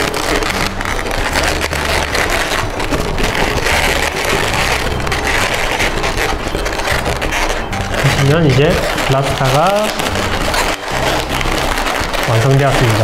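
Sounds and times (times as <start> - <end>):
rubber balloons rubbing together: 0.0 - 13.0.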